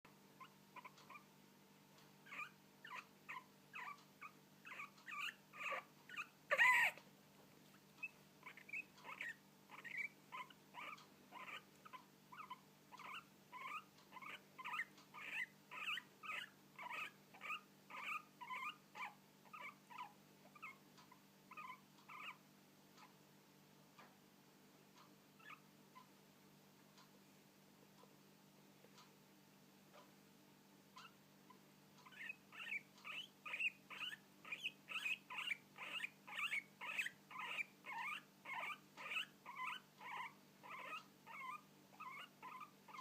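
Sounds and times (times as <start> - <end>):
guinea pig hiccuping squeaks: 0.4 - 1.3, 2.2 - 7.0, 7.8 - 23.2, 25.0 - 26.2, 30.9 - 43.0.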